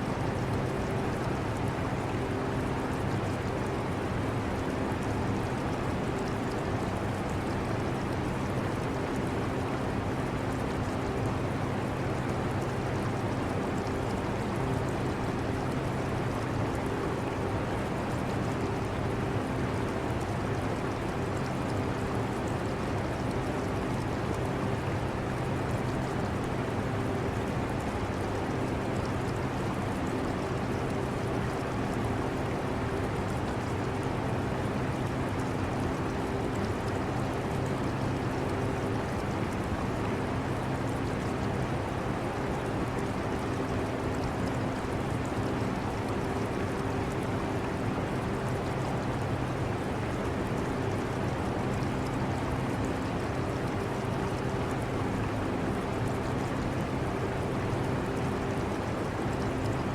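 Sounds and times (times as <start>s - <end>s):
aquarium water trickling: 0.0s - 59.9s.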